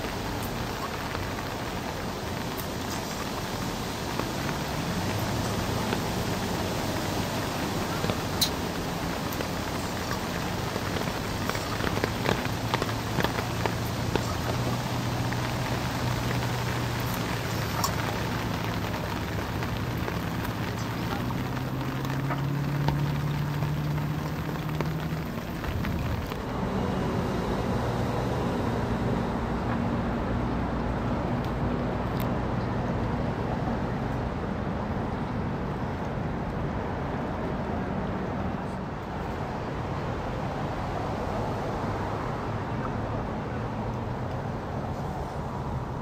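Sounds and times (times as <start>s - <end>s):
engines humming at low speed: 0.0s - 46.0s
outdoor noise: 0.0s - 46.0s.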